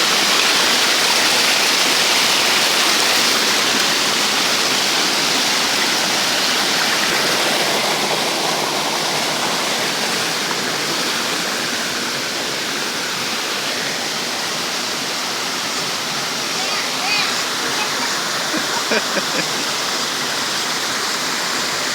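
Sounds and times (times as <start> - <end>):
flowing water rushing: 0.0 - 21.9.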